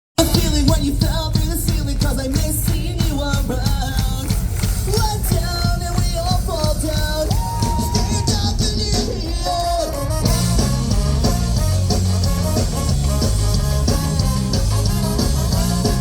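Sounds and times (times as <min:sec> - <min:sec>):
fast drum beat: 0:00.2 - 0:16.0
pop-punk band playing live: 0:00.2 - 0:16.0.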